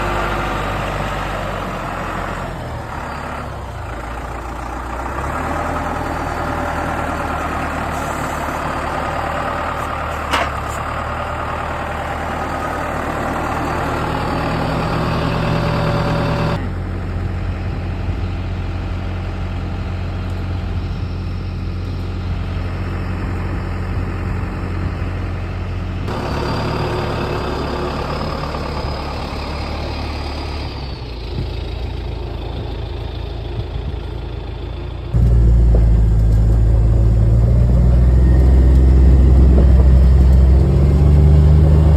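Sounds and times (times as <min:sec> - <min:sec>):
farm vehicle engine running: 0:00.0 - 0:41.9.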